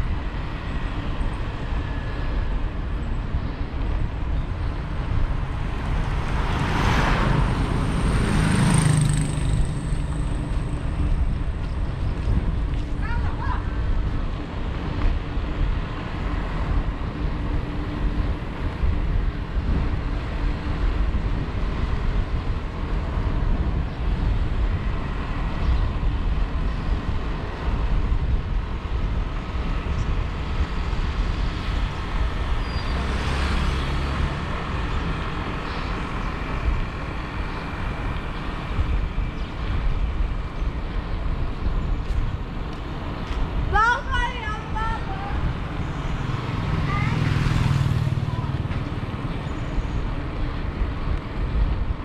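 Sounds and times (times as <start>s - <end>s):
bike road and wind noise: 0.0s - 52.0s
passing traffic: 0.0s - 52.0s.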